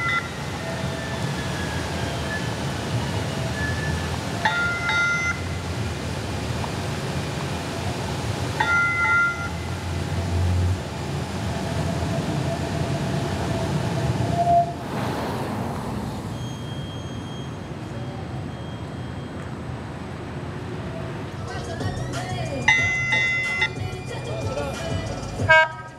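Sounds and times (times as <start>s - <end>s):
streetcar rumbling past: 0.0s - 25.9s
streetcar warning signal tones: 0.0s - 25.9s
streetcar whine: 0.0s - 25.9s.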